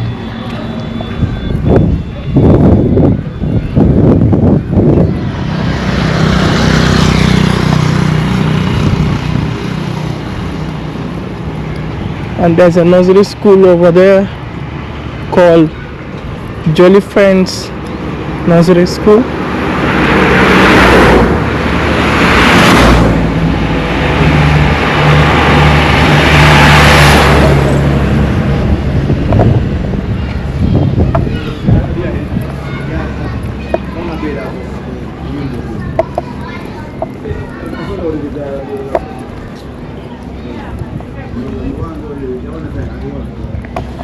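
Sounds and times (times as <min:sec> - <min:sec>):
vehicle passing on road: 0:00.0 - 0:44.0.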